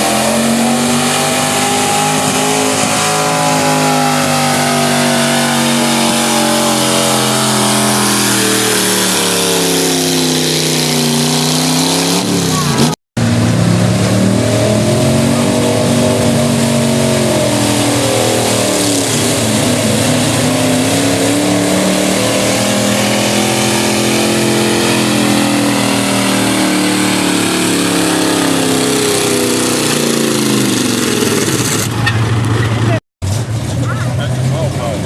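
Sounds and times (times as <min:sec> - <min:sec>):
truck engine at high revs: 0:00.0 - 0:35.0.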